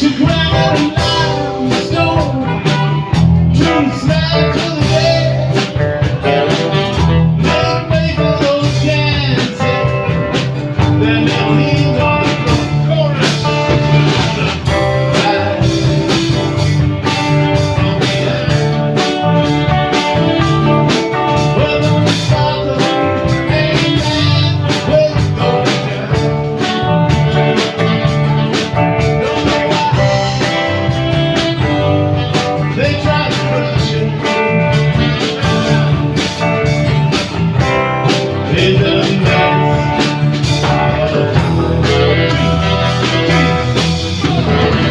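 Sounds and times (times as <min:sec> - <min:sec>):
live blues band playing: 0:00.0 - 0:44.9.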